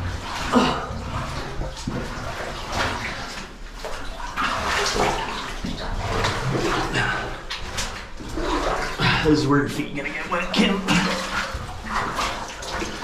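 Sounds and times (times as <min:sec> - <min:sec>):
stream water splashing: 0:00.0 - 0:13.0.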